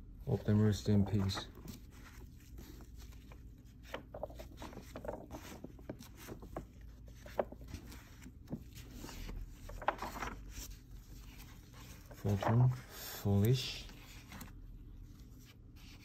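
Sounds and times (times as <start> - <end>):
paper pages rustling and crackling: 0.3 - 16.0.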